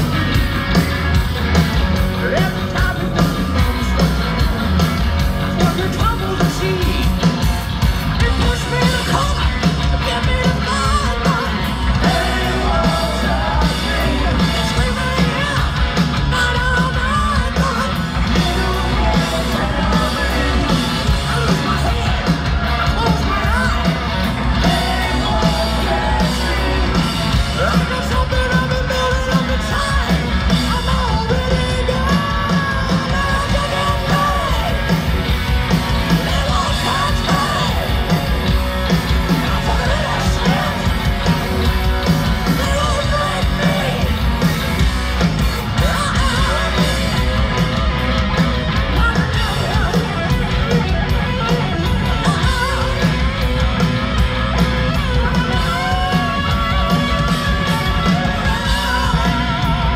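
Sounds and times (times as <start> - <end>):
bass guitar: 0.0 - 59.9
distorted electric guitars: 0.0 - 59.9
drums: 0.0 - 59.9
person singing lead vocal: 2.0 - 4.6, 5.5 - 7.4, 8.1 - 35.2, 35.9 - 38.3, 39.2 - 41.5, 42.3 - 44.4, 45.4 - 47.9, 48.8 - 53.6, 54.4 - 59.9.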